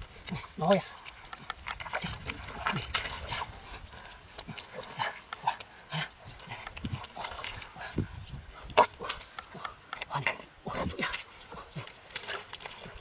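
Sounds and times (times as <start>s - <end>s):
hands squelching through wet mud: 0.0s - 13.0s.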